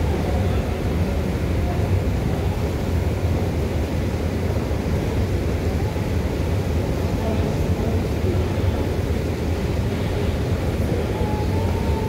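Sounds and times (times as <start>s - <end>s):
moving walkway rumbling: 0.0s - 12.0s.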